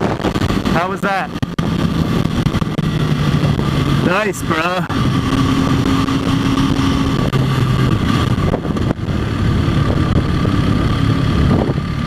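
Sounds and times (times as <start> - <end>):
motorcycle engine running: 0.0 - 12.0
wind on microphone: 0.0 - 12.0.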